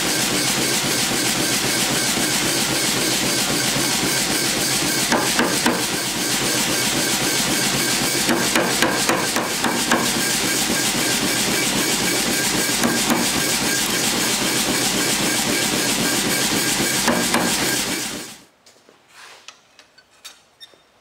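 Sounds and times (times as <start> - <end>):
machine running noise: 0.0 - 18.5
power hammer blows on steel: 0.2 - 18.4.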